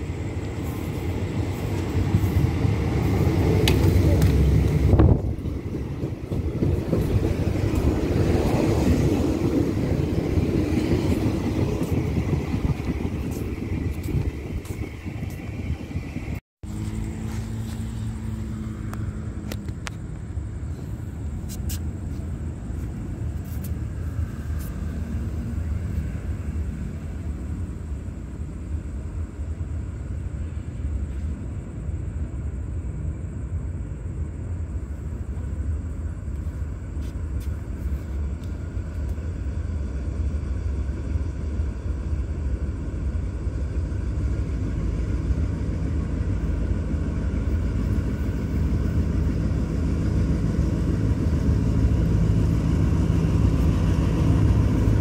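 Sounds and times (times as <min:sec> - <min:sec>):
diesel train rumble: 0:00.0 - 0:55.0.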